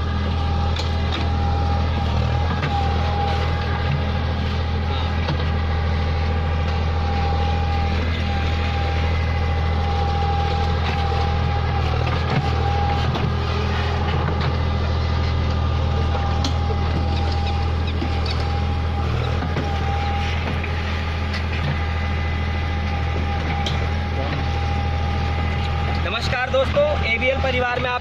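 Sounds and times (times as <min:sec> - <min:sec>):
diesel engine running: 0:00.0 - 0:28.0
high whine: 0:00.0 - 0:28.0.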